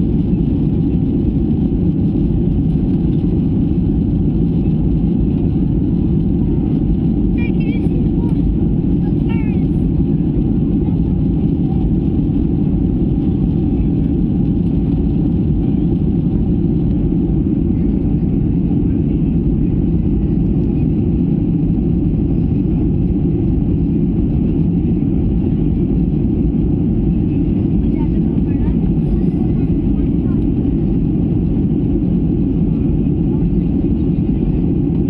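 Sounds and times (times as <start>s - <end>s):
jet cabin roar: 0.0s - 35.0s.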